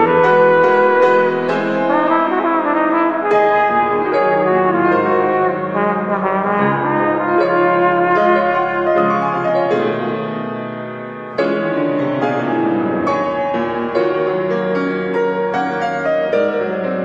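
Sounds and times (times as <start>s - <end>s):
flugelhorn melody: 0.0s - 17.0s
piano accompaniment: 0.0s - 17.0s.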